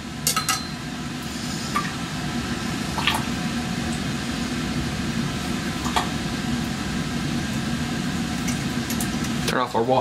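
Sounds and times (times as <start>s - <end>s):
ventilation rush and hum: 0.0s - 10.0s.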